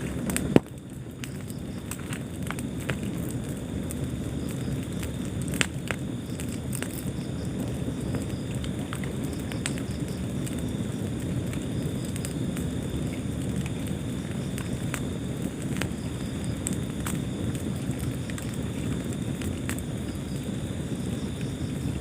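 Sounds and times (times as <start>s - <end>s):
fire crackling and popping: 0.0s - 22.0s
wood fire flames rumbling: 0.0s - 22.0s.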